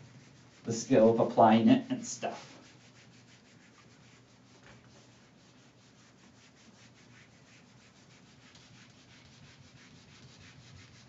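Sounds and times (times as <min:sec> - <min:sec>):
eraser rubbing on whiteboard: 0:00.0 - 0:11.0.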